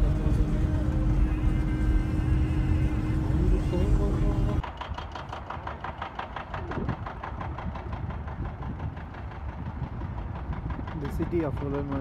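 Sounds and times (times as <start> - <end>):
engine idling with knocking: 0.0 - 12.0.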